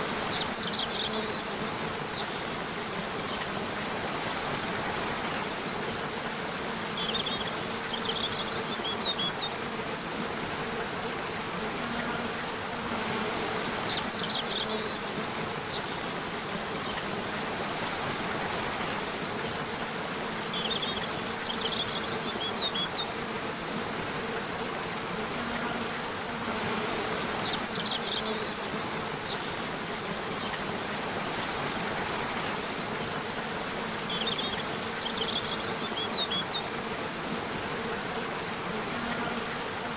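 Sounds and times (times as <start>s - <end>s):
flowing water: 0.0s - 39.9s
insect buzzing: 0.0s - 39.9s.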